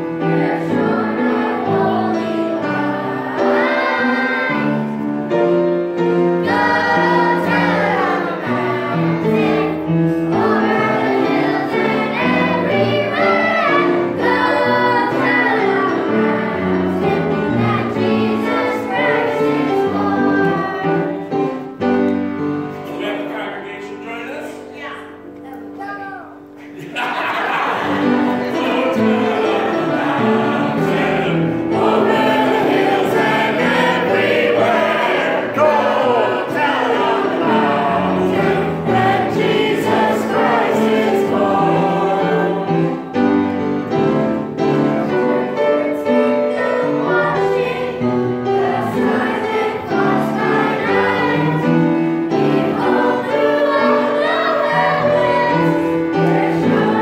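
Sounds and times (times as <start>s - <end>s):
children's choir singing: 0.0s - 24.7s, 26.2s - 57.0s.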